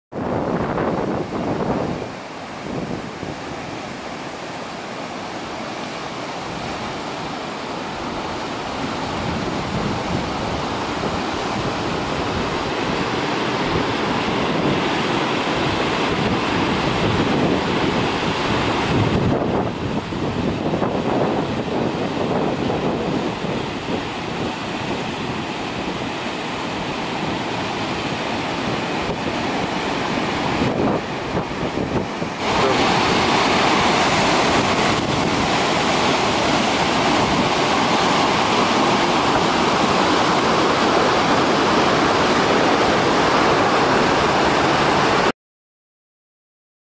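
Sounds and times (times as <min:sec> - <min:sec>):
whitewater rapids rushing: 0:00.2 - 0:45.3.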